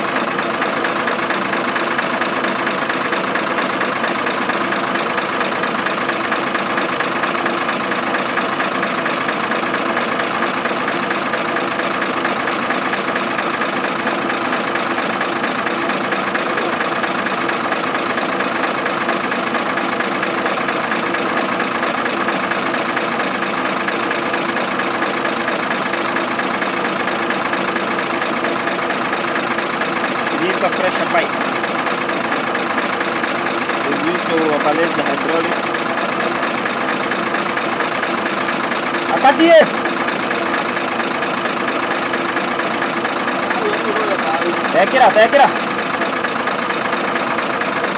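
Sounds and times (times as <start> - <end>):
engine idling: 0.0 - 47.9.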